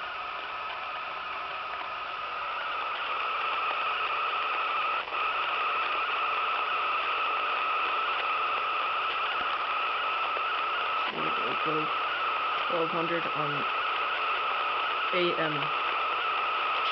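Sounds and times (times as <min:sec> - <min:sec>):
faint whine: 0:00.0 - 0:16.9
radio static hiss: 0:00.0 - 0:16.9.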